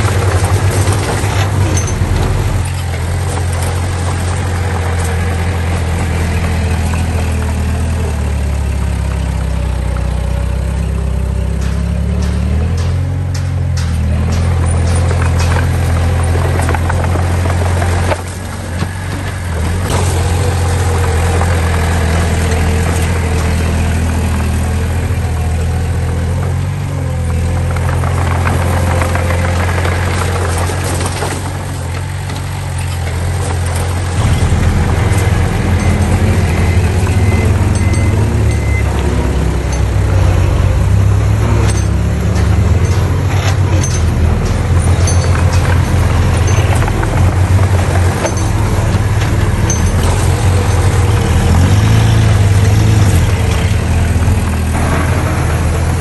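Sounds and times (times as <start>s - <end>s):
heavy diesel engines running: 0.0s - 56.0s
louder engine: 0.0s - 56.0s.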